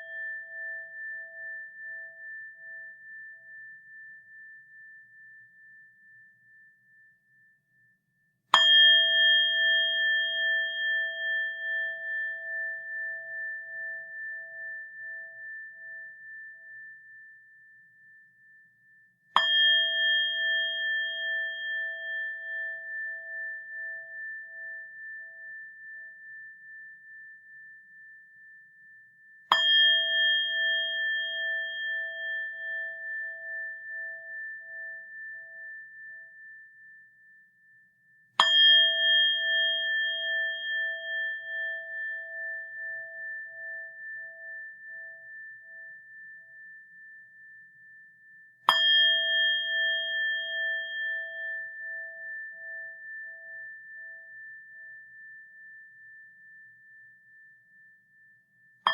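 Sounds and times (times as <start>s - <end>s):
bowl bell ringing: 0.0s - 7.4s, 8.5s - 58.2s.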